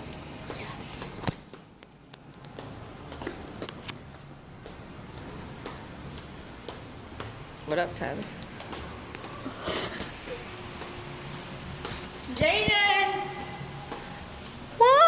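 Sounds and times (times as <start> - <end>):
footsteps on concrete: 0.0 - 15.0.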